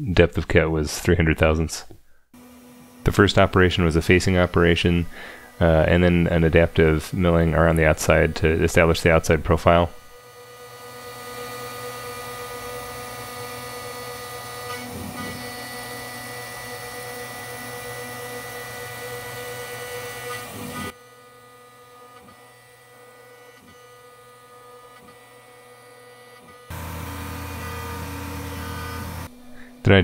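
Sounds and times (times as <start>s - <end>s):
mill spindle whine cutting plastic: 2.4s - 29.8s.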